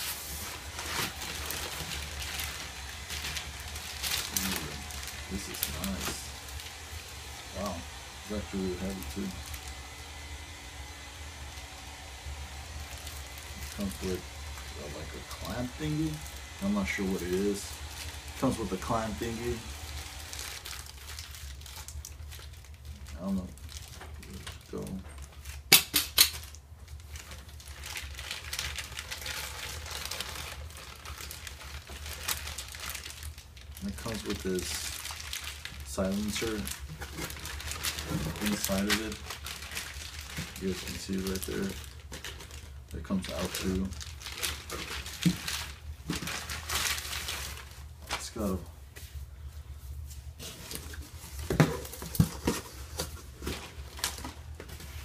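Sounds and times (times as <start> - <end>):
plastic bag crinkling: 0.0 - 10.0, 12.6 - 48.6, 50.0 - 55.0
low steady hum: 0.0 - 55.0.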